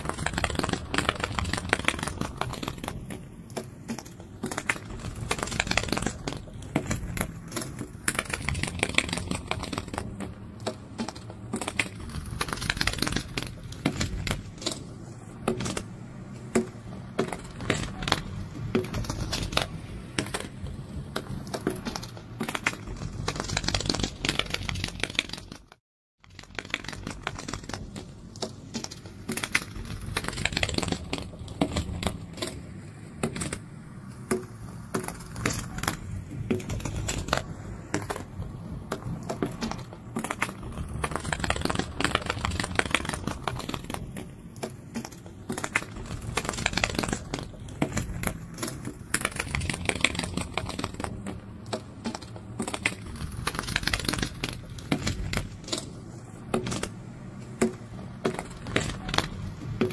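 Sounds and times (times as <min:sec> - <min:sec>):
dense clicking and crackling: 0:00.0 - 0:59.9.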